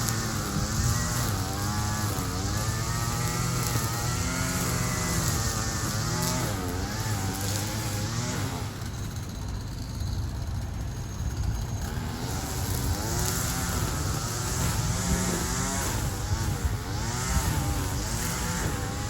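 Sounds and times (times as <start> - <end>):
string trimmer engine running: 0.0 - 19.0.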